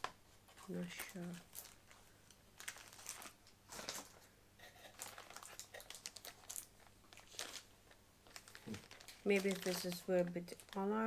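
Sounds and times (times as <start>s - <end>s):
packaging rustling and crinkling: 0.4s - 11.0s.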